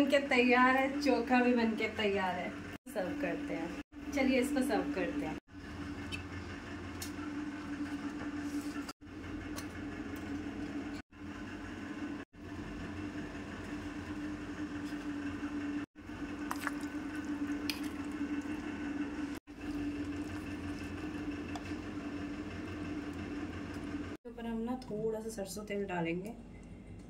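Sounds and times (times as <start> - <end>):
machine hum: 0.2 - 24.2.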